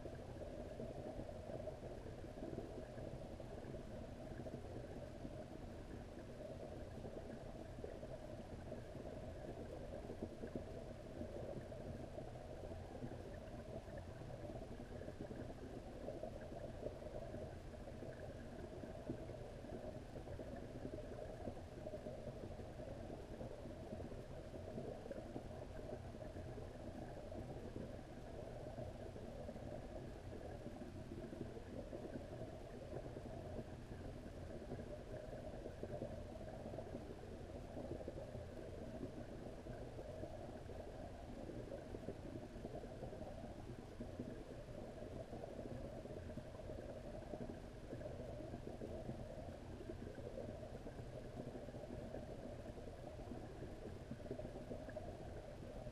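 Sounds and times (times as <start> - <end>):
underwater rumbling and hiss: 0.0 - 55.9.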